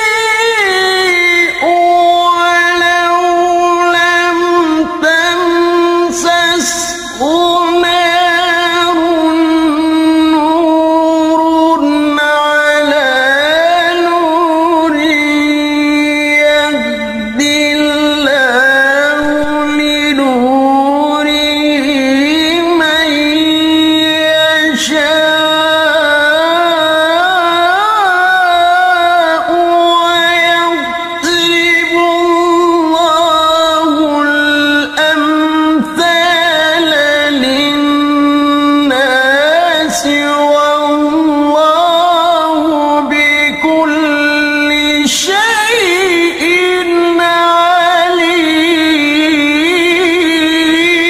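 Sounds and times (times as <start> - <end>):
man reciting melodically: 0.0 - 51.0.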